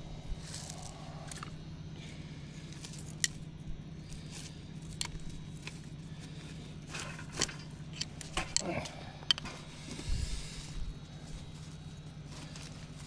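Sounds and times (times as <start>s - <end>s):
steady low hum: 0.0s - 13.0s
weeds snapping and rustling: 0.3s - 1.5s, 2.6s - 9.0s, 9.8s - 13.0s.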